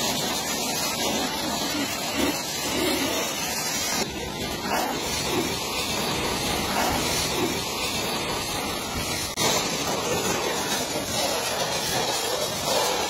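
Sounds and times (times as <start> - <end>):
pressure washer spraying water: 0.0 - 13.0.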